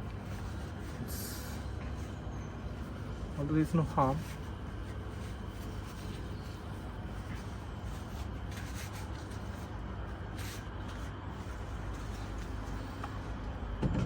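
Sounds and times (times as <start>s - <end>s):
quiet handling noises: 0.0s - 14.0s
steady low hum: 0.0s - 14.0s.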